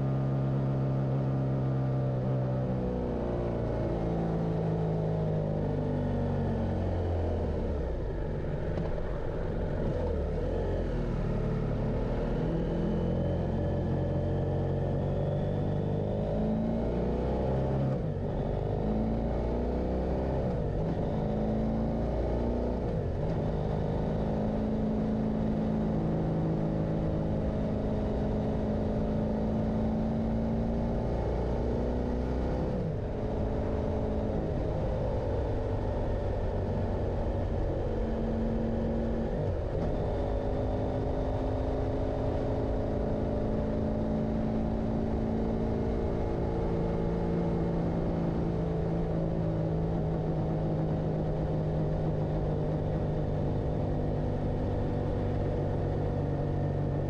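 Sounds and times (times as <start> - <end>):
motorcycle engine revving: 9.8 - 57.0.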